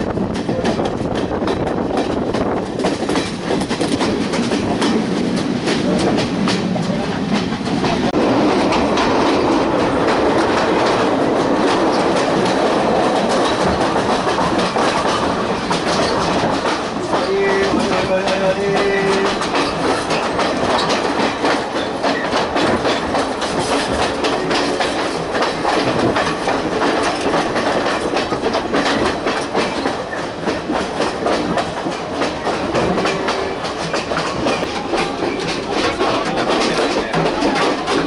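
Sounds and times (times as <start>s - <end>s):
train rumble: 0.0s - 38.0s
wheels clicking over rail joints: 0.0s - 38.0s.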